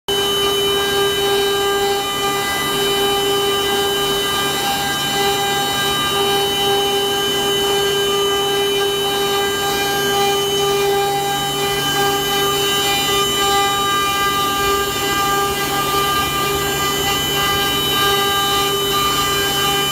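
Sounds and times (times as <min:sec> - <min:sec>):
router spindle high-pitched whine: 0:00.1 - 0:19.9.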